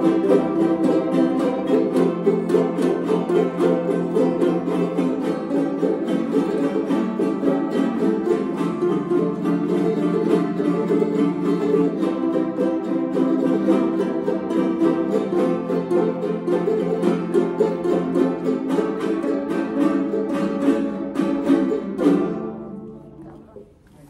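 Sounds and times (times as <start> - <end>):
guitars strummed fast together: 0.0 - 22.8.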